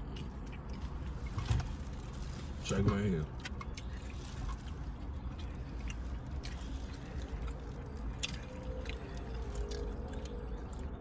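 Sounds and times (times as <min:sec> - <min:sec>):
chewing and mouth noises: 0:00.0 - 0:02.1, 0:03.3 - 0:11.0.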